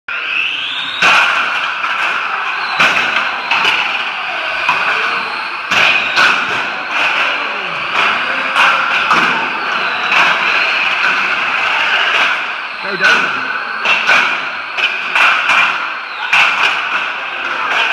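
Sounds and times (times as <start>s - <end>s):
rc car motors whining: 0.1s - 17.9s
cars knocking into each other: 0.2s - 17.9s.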